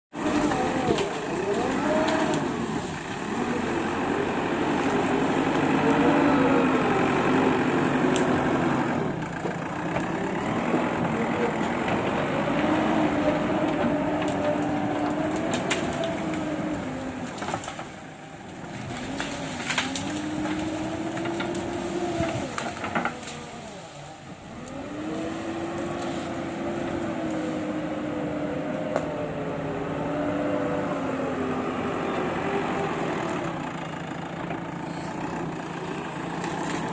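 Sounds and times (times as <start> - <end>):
excavator diesel engine revving: 0.1 - 36.9.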